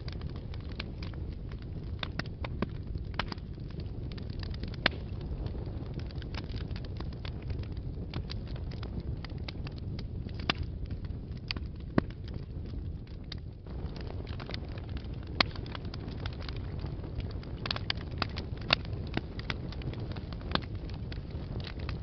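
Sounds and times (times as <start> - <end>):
fire crackling and popping: 0.0 - 22.0
rumble of flames: 0.0 - 22.0.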